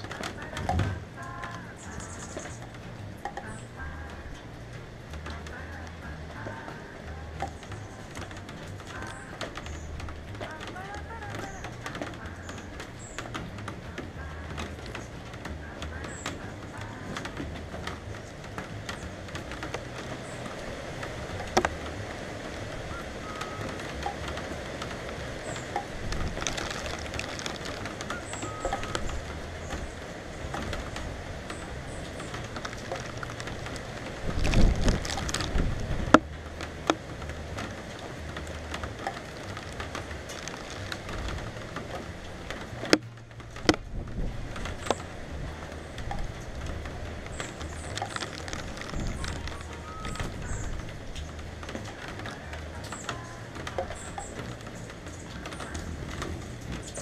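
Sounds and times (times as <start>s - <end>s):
loud low rumble: 0.0s - 57.0s
steady rain falling: 0.0s - 57.0s.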